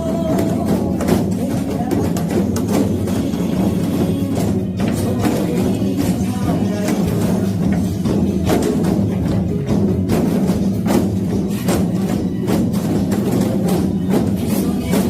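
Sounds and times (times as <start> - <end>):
sharp percussive hits: 0.0 - 15.0.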